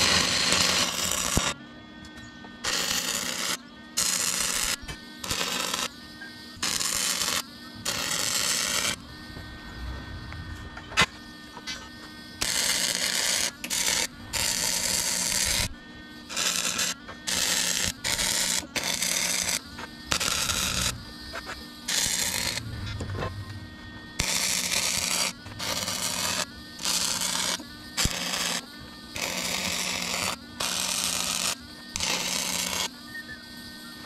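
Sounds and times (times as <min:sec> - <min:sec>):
welder arc crackling: 0:00.0 - 0:01.6, 0:02.6 - 0:33.0
welder hum: 0:00.0 - 0:34.0.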